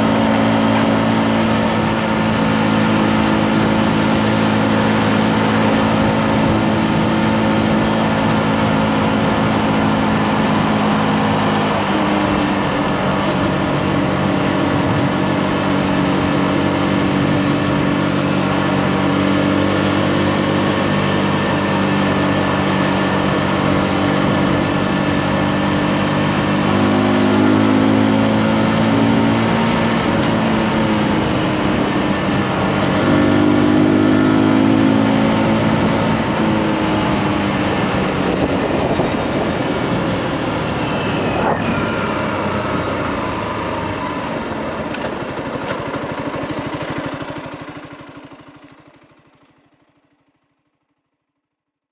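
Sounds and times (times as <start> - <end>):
wind and road noise: 0.0 - 50.8
motorcycle engine running: 0.0 - 51.4.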